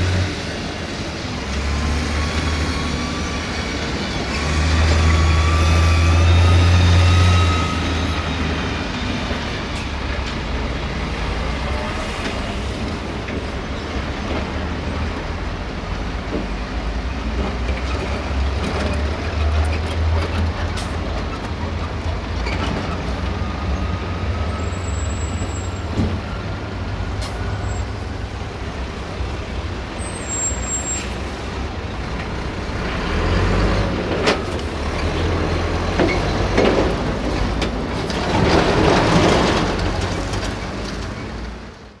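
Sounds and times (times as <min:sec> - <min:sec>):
diesel trucks driving: 0:00.0 - 0:42.0.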